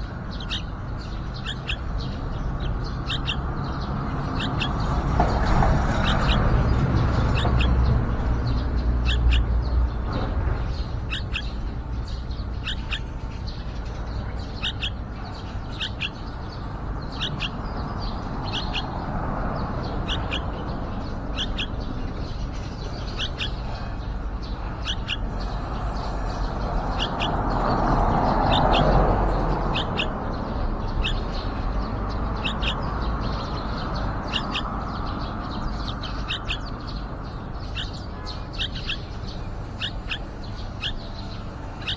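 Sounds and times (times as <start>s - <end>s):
bird giving high chirps: 0.3s - 9.9s, 10.7s - 41.9s.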